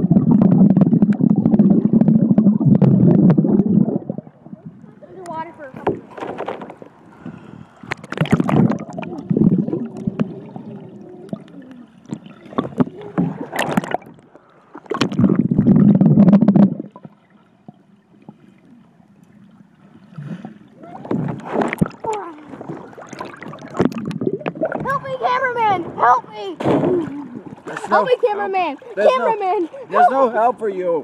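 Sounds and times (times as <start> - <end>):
pool water splashing: 0.0 - 31.0.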